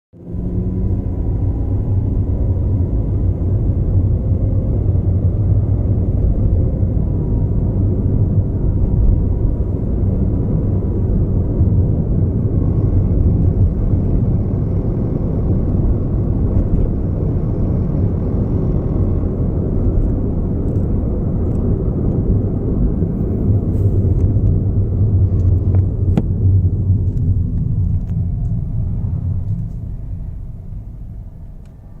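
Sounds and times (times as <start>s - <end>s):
car cabin road rumble: 0.2s - 32.0s.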